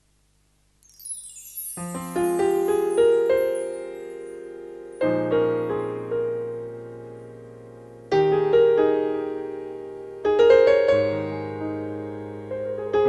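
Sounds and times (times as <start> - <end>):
piano chords ringing: 0.6 - 13.0
light piano notes: 0.8 - 13.0.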